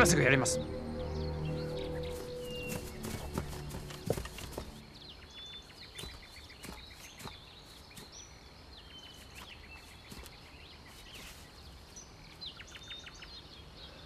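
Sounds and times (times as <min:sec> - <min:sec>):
faint outdoor background: 0:00.0 - 0:14.0
small birds chirping and whistling: 0:00.0 - 0:14.0.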